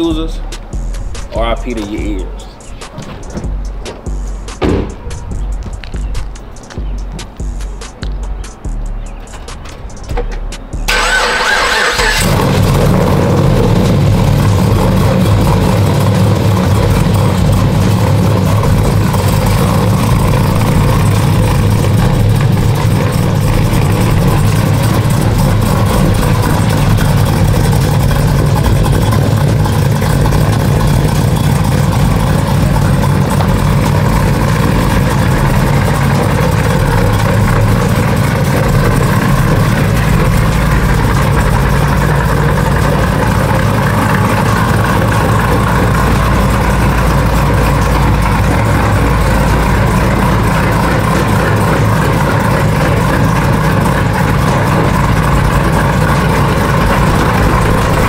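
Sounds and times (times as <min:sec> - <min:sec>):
car engine idling with choppy lope: 0:00.0 - 0:58.0.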